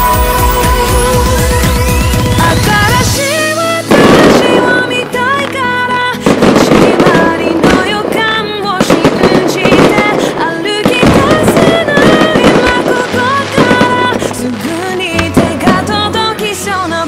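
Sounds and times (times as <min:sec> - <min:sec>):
fireworks bursting and crackling: 0:00.0 - 0:17.0
music track: 0:00.0 - 0:17.0.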